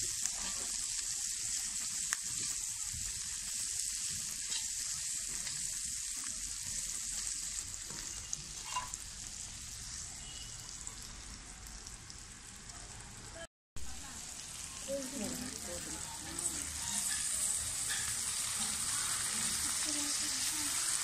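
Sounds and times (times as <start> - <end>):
beans sizzling in oil: 0.0 - 21.0.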